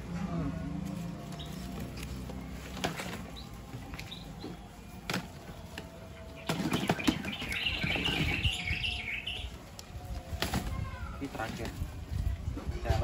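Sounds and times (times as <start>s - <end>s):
birds chirping: 0.9s - 12.4s.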